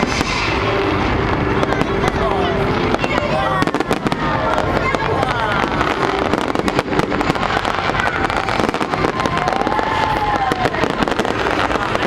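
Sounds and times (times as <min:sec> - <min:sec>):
firework whistle: 0:00.0 - 0:04.9, 0:05.5 - 0:12.0
fireworks bangs and crackles: 0:00.0 - 0:12.0.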